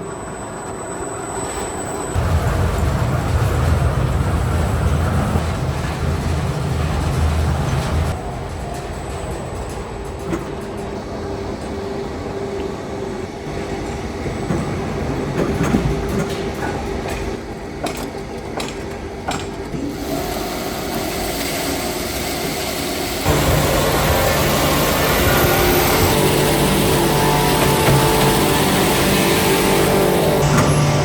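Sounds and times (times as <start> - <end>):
sawmill machinery humming: 0.0 - 8.5, 10.5 - 31.0.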